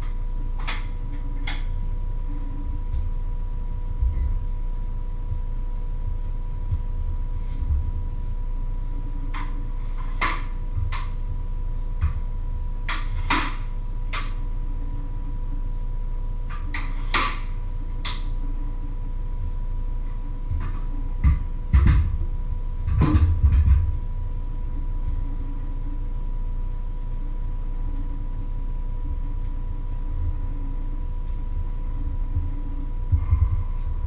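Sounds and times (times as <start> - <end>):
faint steady whine: 0.0 - 34.0
steady low hum: 0.0 - 34.0.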